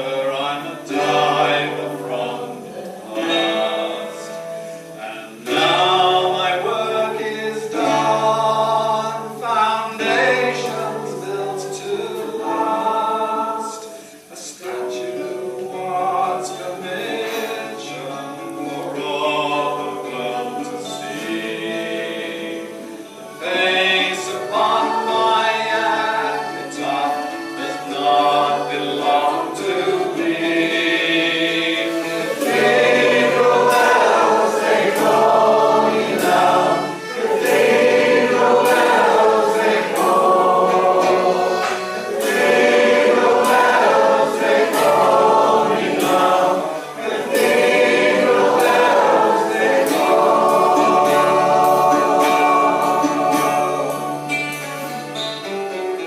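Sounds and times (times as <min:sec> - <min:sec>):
voices singing in harmony: 0:00.0 - 0:56.0.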